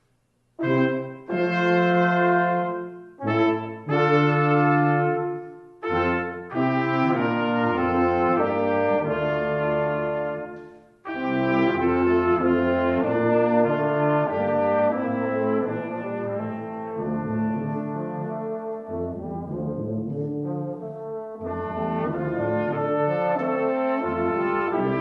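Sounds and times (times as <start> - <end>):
brass ensemble playing chords: 0.6 - 25.0.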